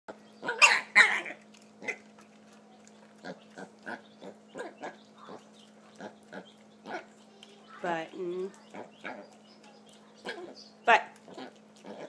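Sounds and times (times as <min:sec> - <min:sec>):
pigs squealing: 0:00.4 - 0:07.2, 0:07.8 - 0:12.0
pigs grunting: 0:00.4 - 0:12.0.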